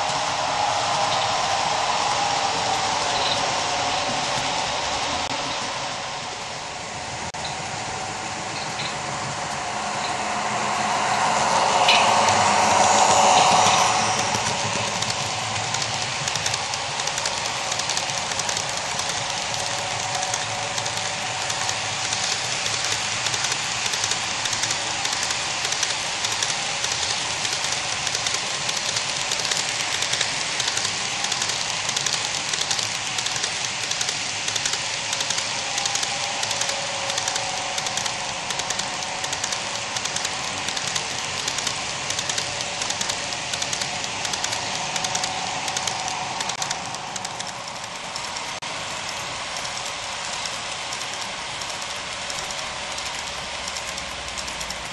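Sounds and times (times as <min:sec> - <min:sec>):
model train cars rolling: 0:00.0 - 0:54.9.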